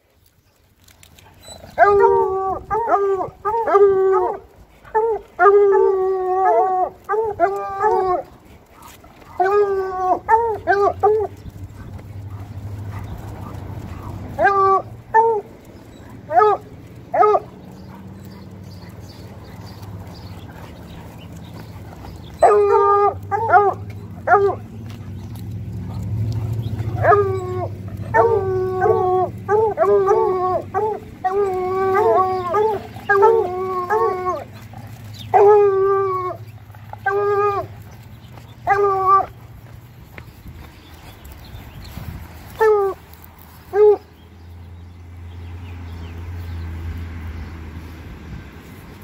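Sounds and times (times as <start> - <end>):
hounds howling: 0.9 - 39.8, 42.5 - 44.1.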